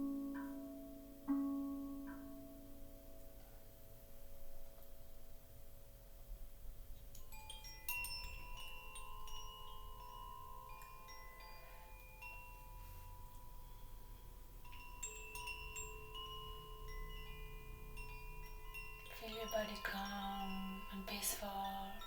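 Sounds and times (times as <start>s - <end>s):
metal chimes ringing: 0.0s - 22.0s.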